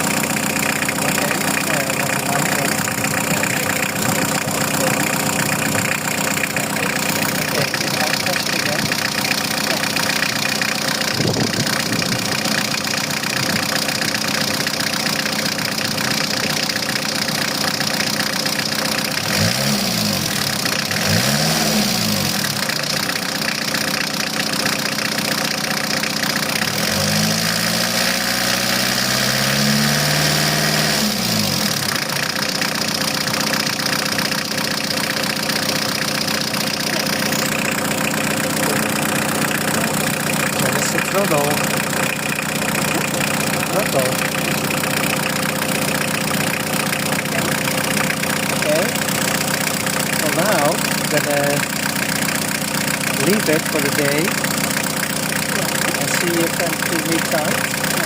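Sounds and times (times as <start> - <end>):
van engine idling and revving: 0.0 - 58.0.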